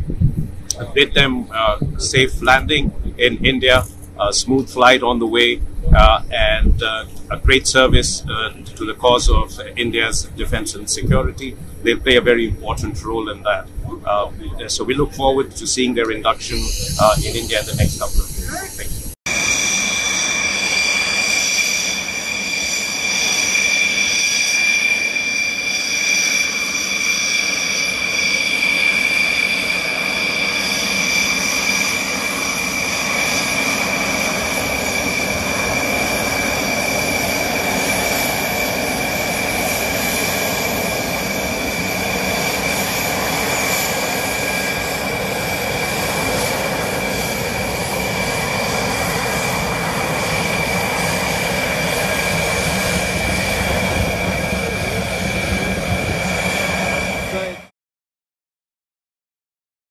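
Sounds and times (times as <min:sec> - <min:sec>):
jet engine whine: 0:00.0 - 0:57.7.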